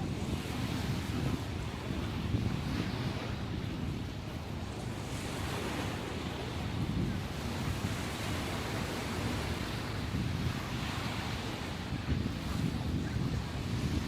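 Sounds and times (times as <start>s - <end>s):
ocean waves washing ashore: 0.0s - 14.0s.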